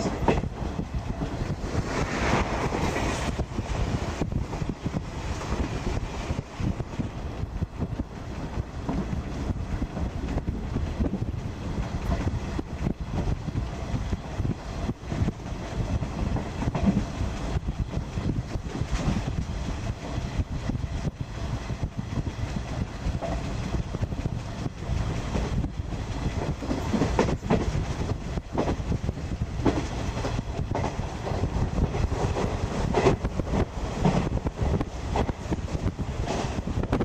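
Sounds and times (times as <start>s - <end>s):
train coach rumbling: 0.0s - 37.0s.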